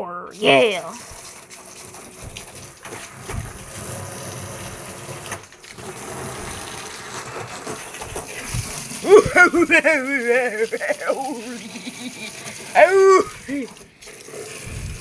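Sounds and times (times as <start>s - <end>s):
gushing water: 0.3s - 15.0s.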